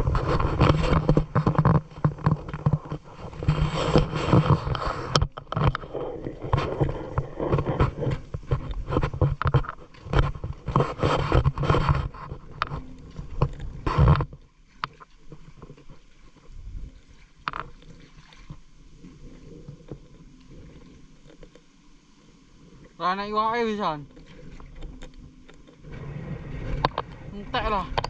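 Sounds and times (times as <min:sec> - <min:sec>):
shallow water splashing: 0:00.0 - 0:28.0.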